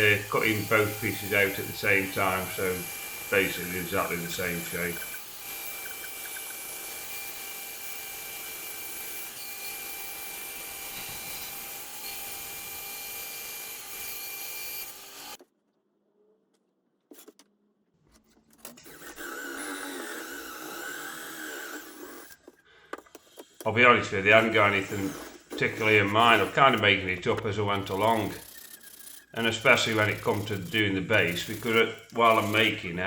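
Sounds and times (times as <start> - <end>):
bandsaw cutting wood: 0.0 - 15.4, 18.7 - 33.0
power tool on wood: 0.0 - 15.4, 18.7 - 33.0.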